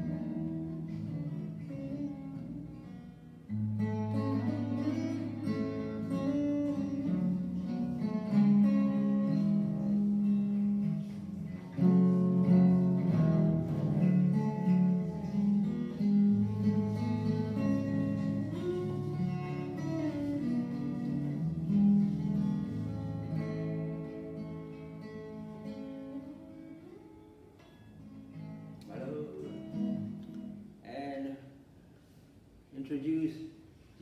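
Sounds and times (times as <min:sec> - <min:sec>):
acoustic guitar fingerpicking: 0:00.0 - 0:30.8.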